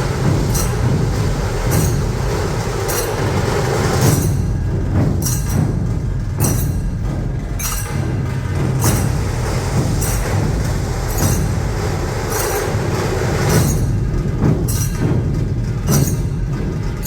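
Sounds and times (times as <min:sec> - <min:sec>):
big drums beating: 0:00.0 - 0:17.0
rapid drum strokes: 0:00.0 - 0:17.0.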